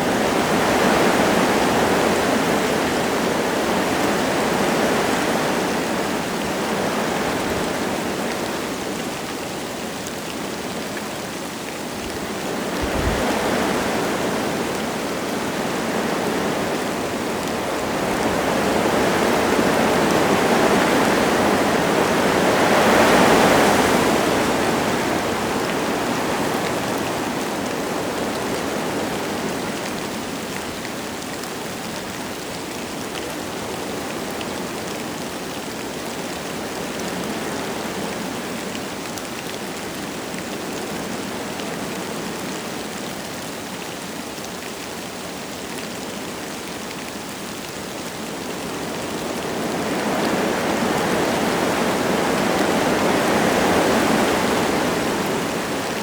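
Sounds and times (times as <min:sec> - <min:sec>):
light rain: 0:00.0 - 0:56.0
wind gusting through trees: 0:00.0 - 0:56.0.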